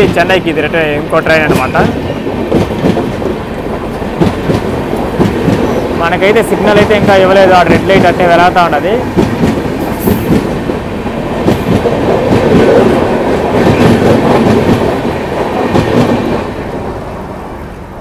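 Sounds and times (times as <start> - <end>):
train wheels rumbling over rails: 0.0 - 18.0.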